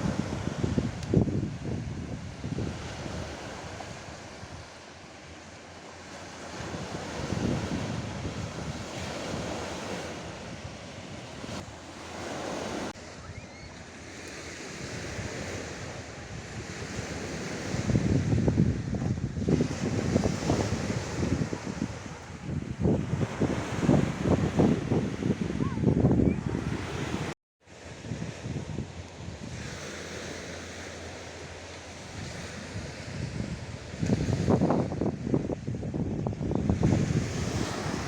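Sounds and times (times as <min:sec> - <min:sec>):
wind buffeting microphone: 0:00.0 - 0:04.7, 0:06.5 - 0:11.6, 0:14.6 - 0:30.0, 0:32.0 - 0:38.0
sea waves washing ashore: 0:00.0 - 0:38.0.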